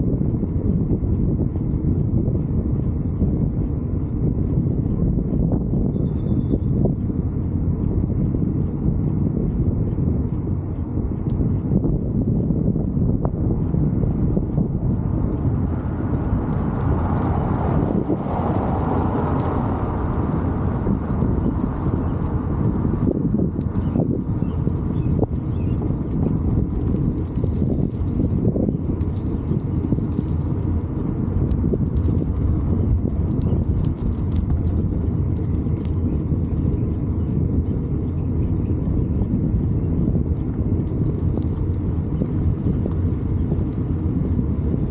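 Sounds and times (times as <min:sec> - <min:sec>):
faint ticks and rattles: 0:00.0 - 0:12.2, 0:13.2 - 0:44.9
wind rumbling on microphone: 0:00.0 - 0:44.9.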